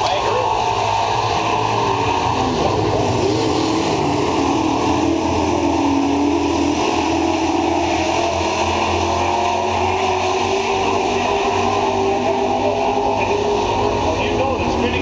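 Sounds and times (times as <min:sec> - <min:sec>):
race truck engines passing: 0:00.0 - 0:15.0.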